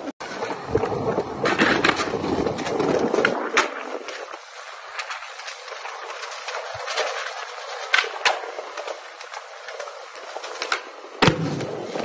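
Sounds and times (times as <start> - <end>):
skateboard wheels rolling on stone: 0.0 - 12.0
skateboard clicks: 0.2 - 12.0.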